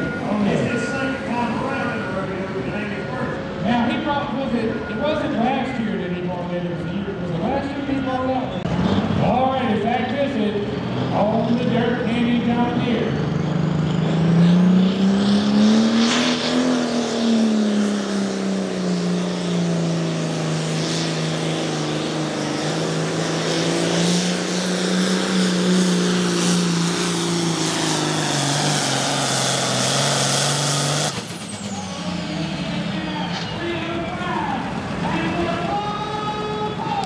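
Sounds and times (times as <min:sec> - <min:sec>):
tractor diesel engine at full throttle: 0:00.0 - 0:37.0.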